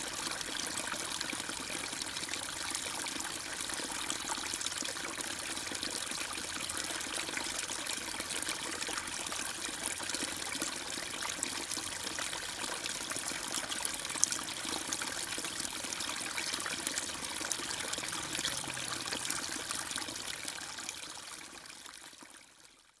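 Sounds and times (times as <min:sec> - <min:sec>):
water trickling and splashing: 0:00.0 - 0:22.8.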